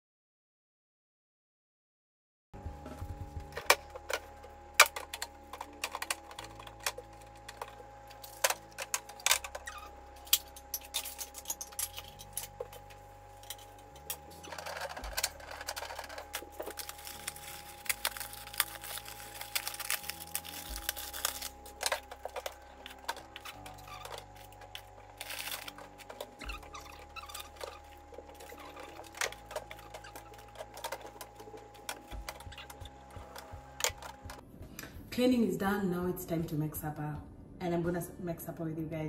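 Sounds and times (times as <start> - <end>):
background music with bass line: 2.6 - 35.1.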